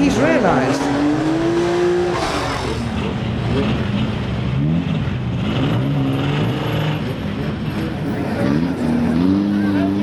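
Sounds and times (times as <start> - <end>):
car engines revving unevenly: 0.0 - 10.0.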